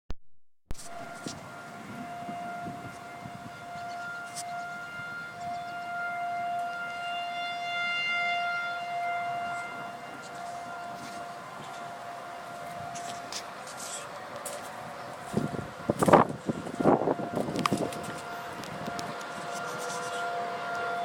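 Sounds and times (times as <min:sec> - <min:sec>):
tornado warning siren: 0:00.7 - 0:21.0.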